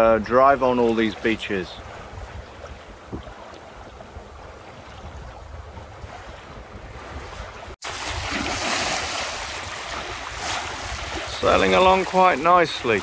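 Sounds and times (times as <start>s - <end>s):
water washing along hull: 0.0s - 13.0s
wind buffeting microphone: 0.0s - 13.0s.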